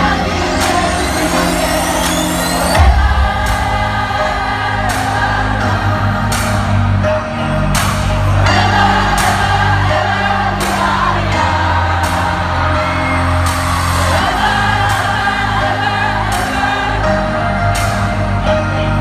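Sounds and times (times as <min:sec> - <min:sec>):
crowd singing along with band: 0:00.0 - 0:19.0
sustained bass: 0:00.0 - 0:19.0.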